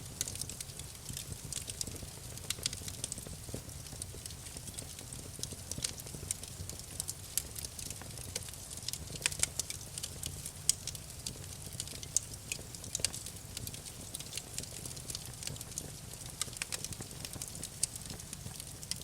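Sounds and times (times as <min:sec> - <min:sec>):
campfire crackling and popping: 0:00.0 - 0:19.0
low rumble of flames: 0:00.0 - 0:19.0.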